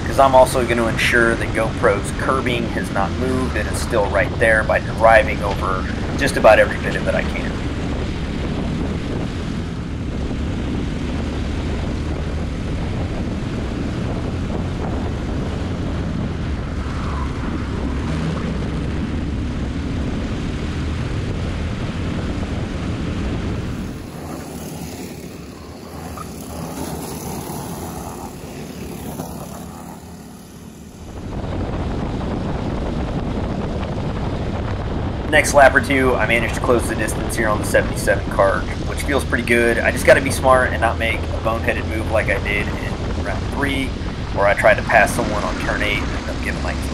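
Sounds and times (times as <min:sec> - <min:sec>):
kart engine running: 0:00.0 - 0:46.9.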